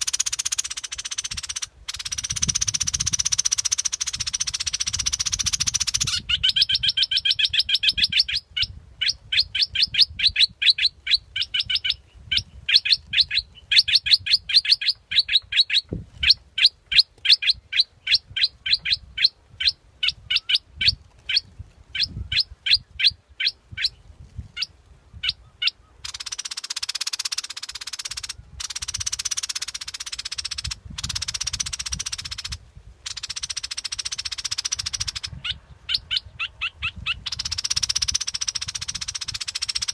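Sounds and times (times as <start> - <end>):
bird chirping rapidly: 0.0 - 21.4, 24.6 - 39.9.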